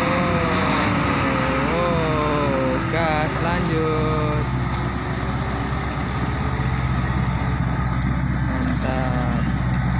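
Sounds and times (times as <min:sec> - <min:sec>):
diesel truck engine idling: 0:00.0 - 0:09.9.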